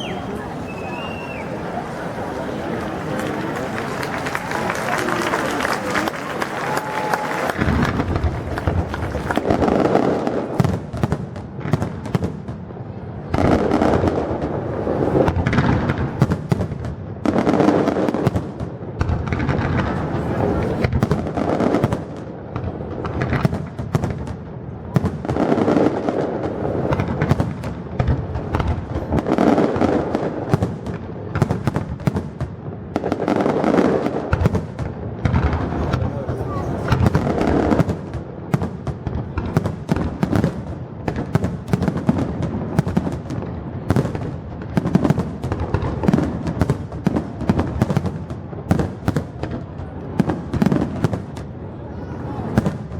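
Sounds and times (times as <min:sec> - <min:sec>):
fireworks bangs and crackles: 0:00.0 - 0:52.9.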